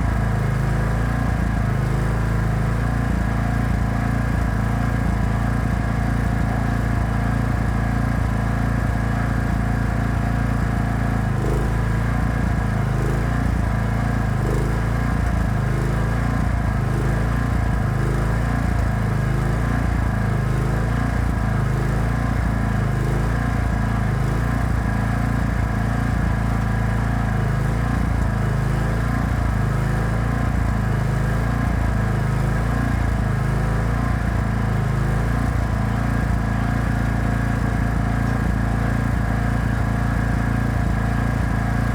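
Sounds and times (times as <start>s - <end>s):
welding generator engine running: 0.1s - 41.9s.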